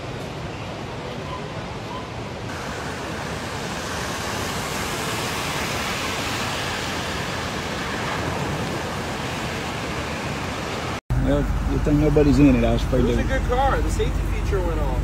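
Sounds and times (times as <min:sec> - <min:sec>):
floodwater rushing: 0:02.4 - 0:15.0.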